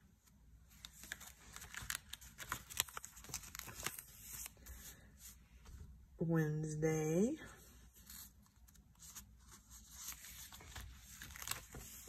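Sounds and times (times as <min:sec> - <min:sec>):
paper pages rustling: 0:00.2 - 0:05.8, 0:07.9 - 0:12.0.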